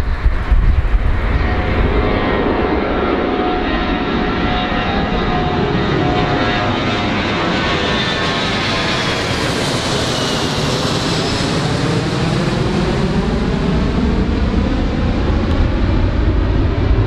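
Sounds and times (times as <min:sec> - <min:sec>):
engine fan whine: 0:00.0 - 0:17.0
jet engines roaring: 0:00.0 - 0:17.0.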